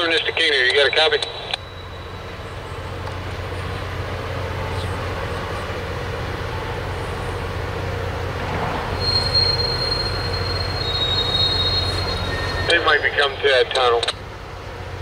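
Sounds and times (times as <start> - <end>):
train rumbling: 0.0 - 15.0
wheels squealing on rail: 0.4 - 13.6.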